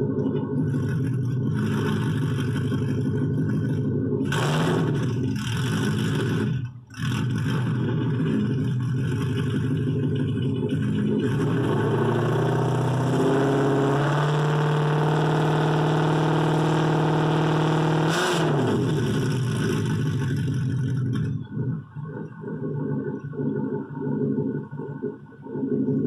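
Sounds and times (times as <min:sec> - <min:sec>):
car engine revving: 0:00.0 - 0:26.0
exhaust crack: 0:00.0 - 0:26.0.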